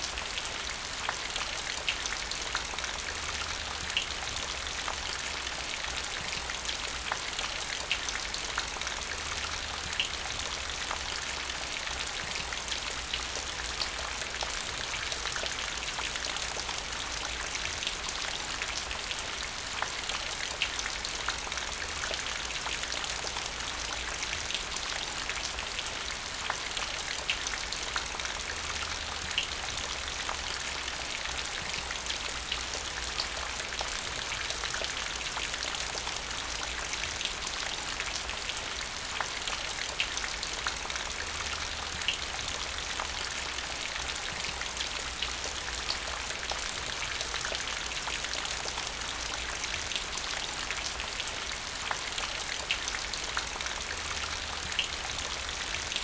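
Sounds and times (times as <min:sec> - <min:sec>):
rain falling into puddle: 0:00.0 - 0:56.0.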